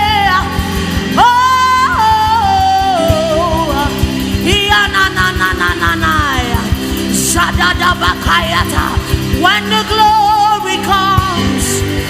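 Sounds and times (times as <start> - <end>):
band with steady beat: 0.0 - 12.0
woman singing melismatic lines: 0.0 - 12.0.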